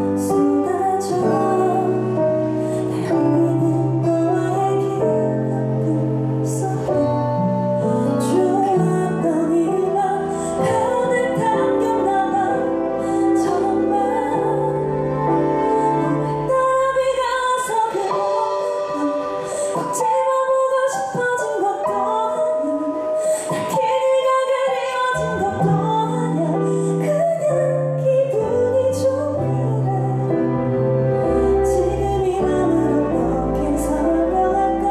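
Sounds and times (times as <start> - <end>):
soft backing music: 0.0 - 34.9
woman singing a ballad: 0.0 - 34.9.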